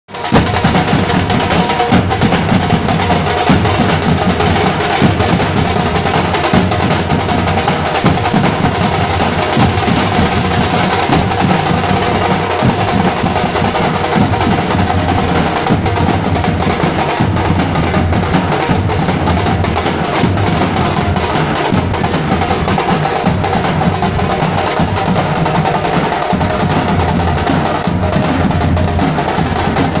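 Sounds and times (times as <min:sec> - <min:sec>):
dhol drums beating: 0:00.1 - 0:30.0.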